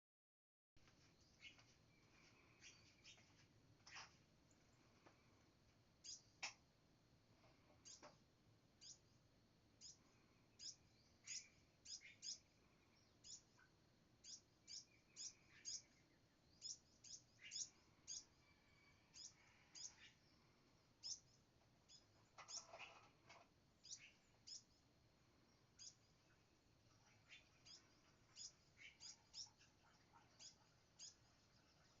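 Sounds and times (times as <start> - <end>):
birds chirping: 0.8 - 6.6, 7.3 - 32.0.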